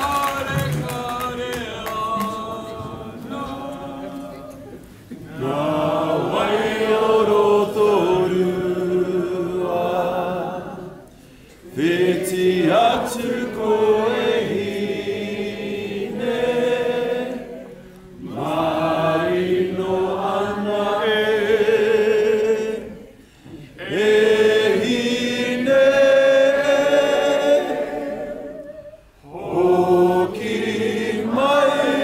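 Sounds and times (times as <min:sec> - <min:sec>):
group singing in unison: 0:00.0 - 0:32.0.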